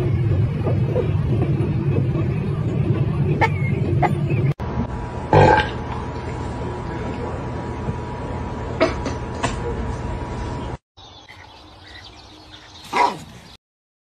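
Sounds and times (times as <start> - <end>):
faint constant hum: 0.0 - 13.5.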